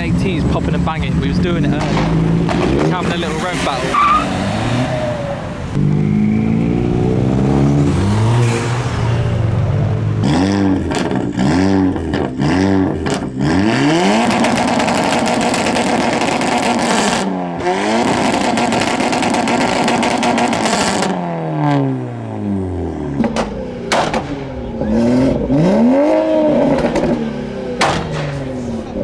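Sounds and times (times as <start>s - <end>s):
exhaust popping and banging: 0.0s - 21.2s, 23.1s - 29.0s
turbo car engine revving: 0.0s - 29.0s.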